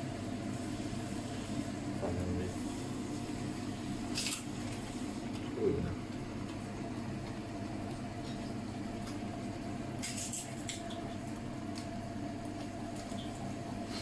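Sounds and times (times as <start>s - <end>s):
spice paste frying in oil: 0.0s - 14.0s
steady low hum: 0.0s - 14.0s.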